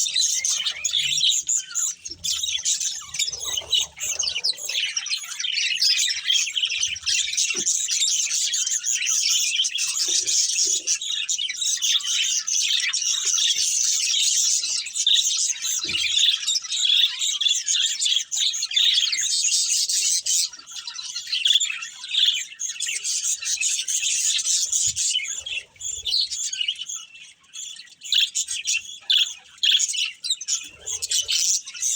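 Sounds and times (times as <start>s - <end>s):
budgerigars chirping and chattering: 0.0s - 31.9s.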